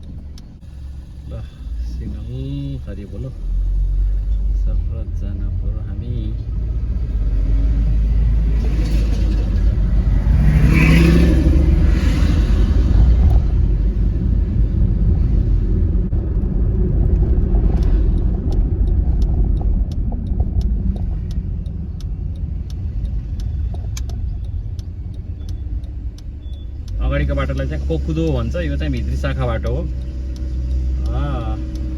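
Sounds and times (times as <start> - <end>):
light ticking: 0.0 - 15.4, 16.0 - 31.9
car engine and road rumble: 0.0 - 31.9.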